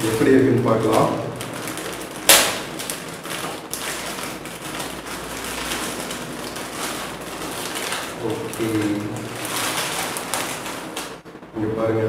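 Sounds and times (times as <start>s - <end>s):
plastic crinkling: 0.0s - 11.2s
plastic packet ripping: 0.0s - 11.2s.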